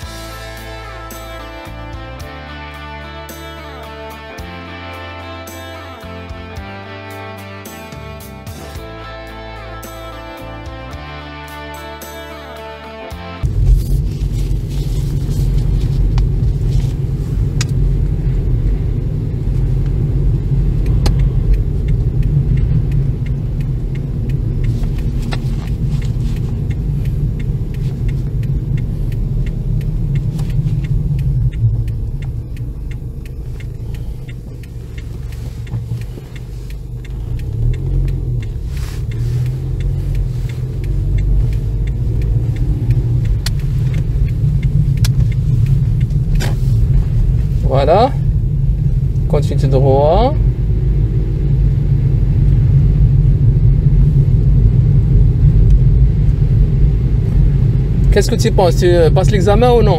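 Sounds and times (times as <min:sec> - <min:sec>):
car road noise: 0:00.0 - 0:59.9.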